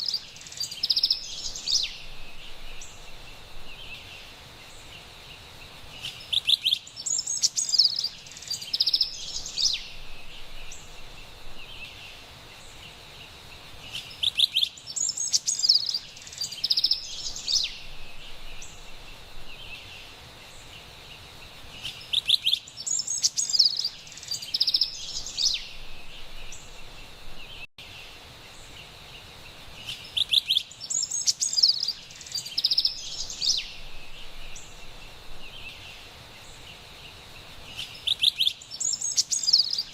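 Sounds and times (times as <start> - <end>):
faint background hiss: 0.0 - 39.9
songbird singing: 0.0 - 39.9.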